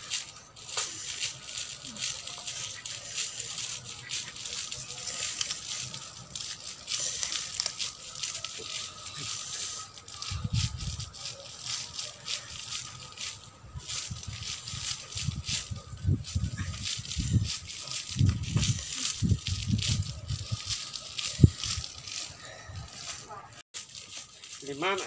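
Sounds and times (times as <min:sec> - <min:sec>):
rustling and crackling clicks: 0:00.0 - 0:25.0.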